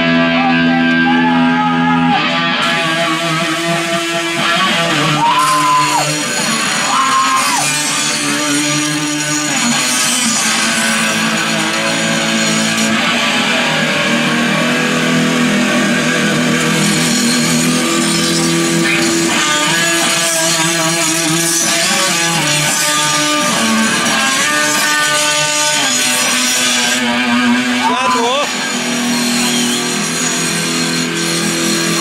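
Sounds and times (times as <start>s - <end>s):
guitar-led music: 0.0s - 32.0s.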